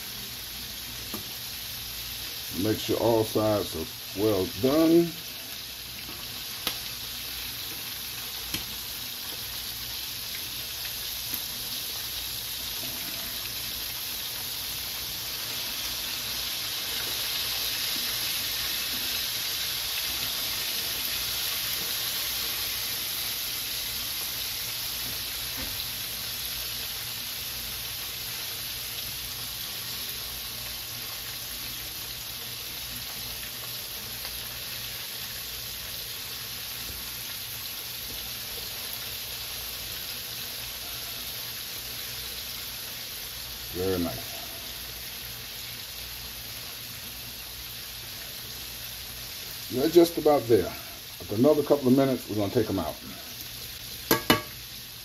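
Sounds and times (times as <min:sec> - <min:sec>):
ribs sizzling in a skillet: 0:00.0 - 0:55.0.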